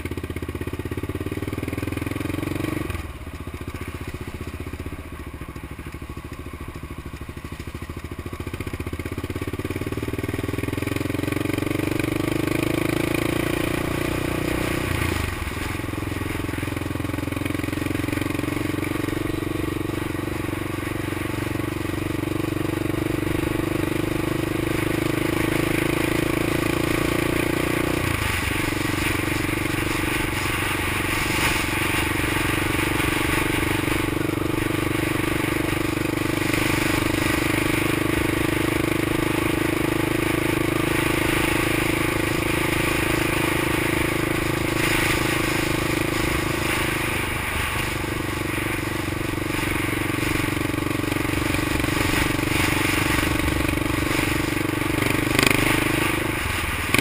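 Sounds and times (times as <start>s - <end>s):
engine running at cruising speed: 0.0s - 57.0s.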